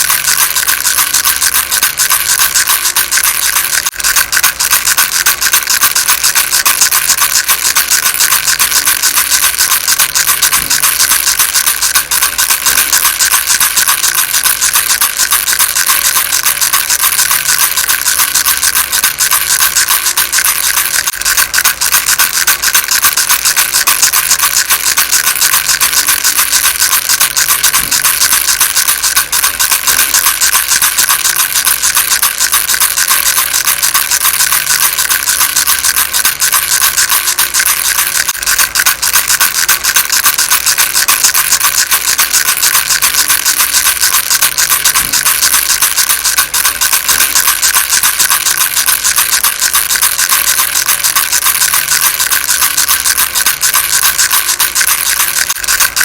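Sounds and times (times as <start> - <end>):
baby rattle shaking: 0.0 - 56.0.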